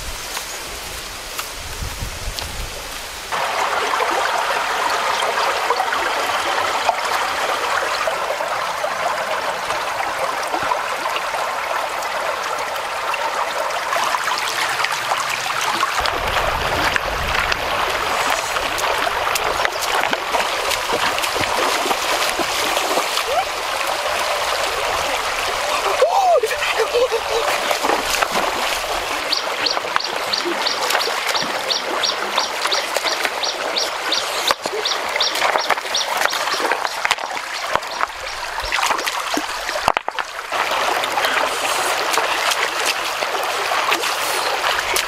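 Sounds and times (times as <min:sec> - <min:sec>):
stream babbling over stones: 0:00.0 - 0:45.0.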